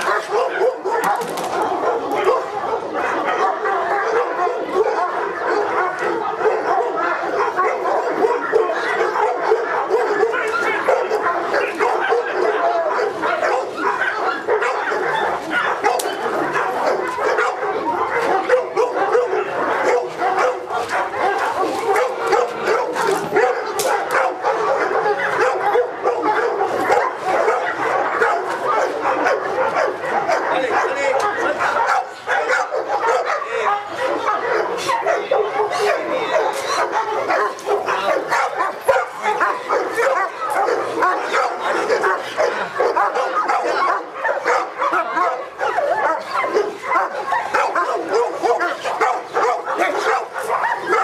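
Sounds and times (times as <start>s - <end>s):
dogs barking and yelping: 0.0s - 51.0s.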